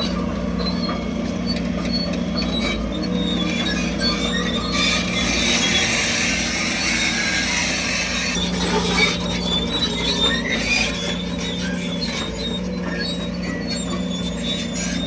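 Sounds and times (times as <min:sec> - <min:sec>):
bulldozer engine running: 0:00.0 - 0:15.0
steel tracks squealing: 0:00.0 - 0:15.0.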